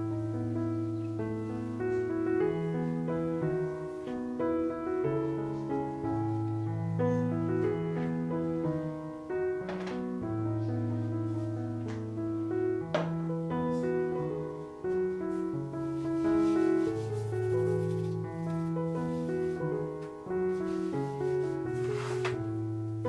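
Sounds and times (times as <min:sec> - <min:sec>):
soft piano music: 0:00.0 - 0:23.0.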